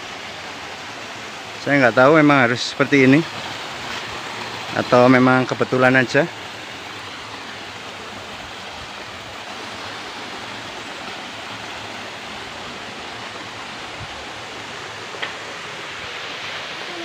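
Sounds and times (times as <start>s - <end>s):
mountain stream and waterfall rushing: 0.0s - 17.0s.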